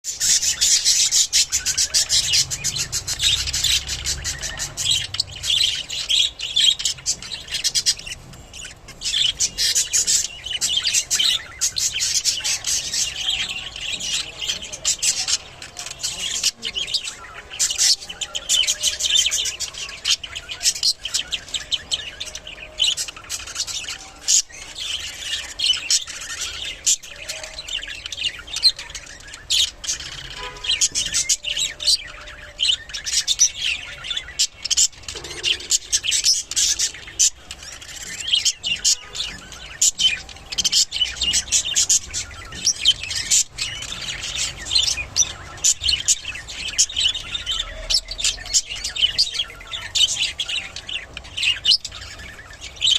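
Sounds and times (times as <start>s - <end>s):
budgerigars chattering: 0.0s - 52.9s.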